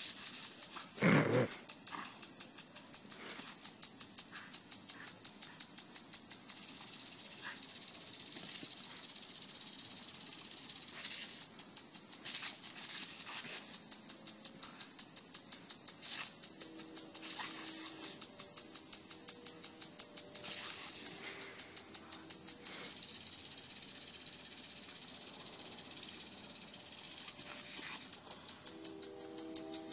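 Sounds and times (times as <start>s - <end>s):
lawn sprinkler spraying water: 0.0s - 29.9s.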